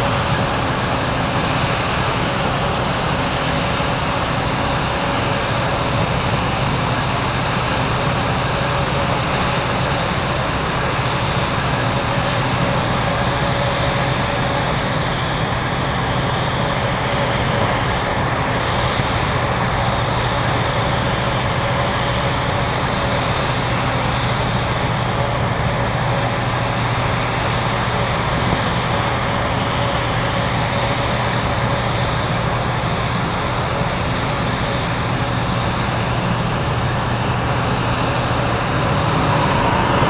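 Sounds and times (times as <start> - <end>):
grain conveyor and engine humming: 0.0 - 40.0.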